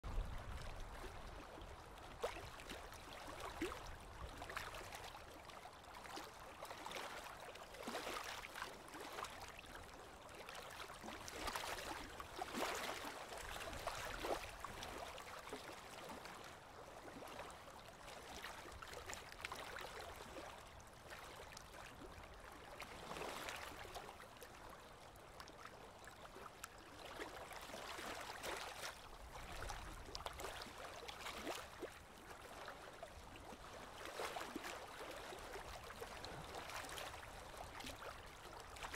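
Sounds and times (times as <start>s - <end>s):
water lapping: 0.0s - 38.9s
wind: 0.0s - 38.9s.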